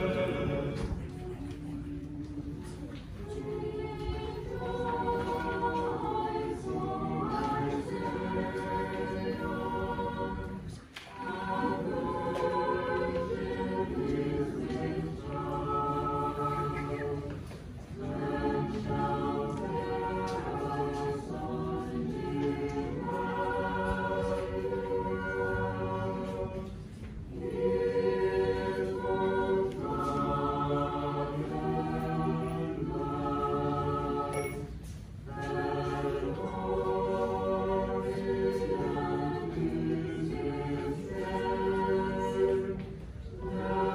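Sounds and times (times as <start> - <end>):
choir singing a cappella chant: 0.0 - 43.9.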